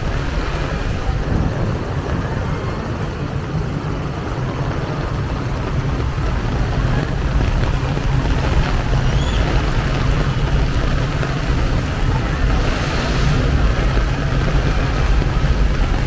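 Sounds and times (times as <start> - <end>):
heavy rain: 0.0 - 16.0
traffic engines droning: 0.0 - 16.0.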